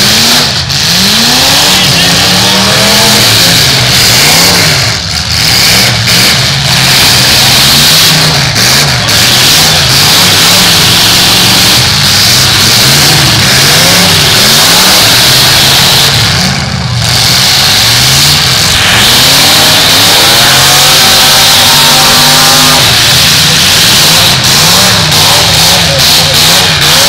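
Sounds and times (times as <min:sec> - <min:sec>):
car engines revving hard: 0:00.0 - 0:27.0.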